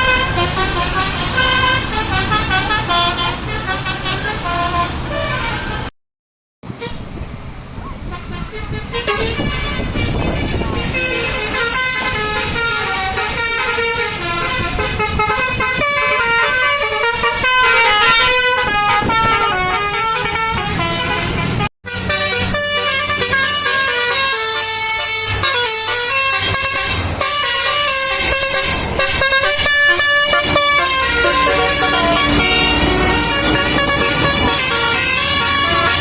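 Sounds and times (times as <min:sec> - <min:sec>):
bus engine running: 0:00.0 - 0:05.9, 0:06.7 - 0:36.0
multi-tone bus horn melodies: 0:00.0 - 0:05.9, 0:08.0 - 0:36.0.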